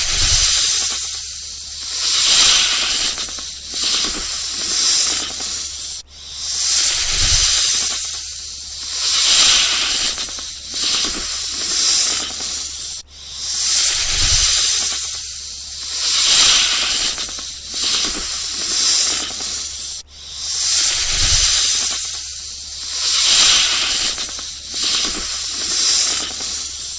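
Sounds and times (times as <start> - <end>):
snake hissing: 0.0 - 26.9.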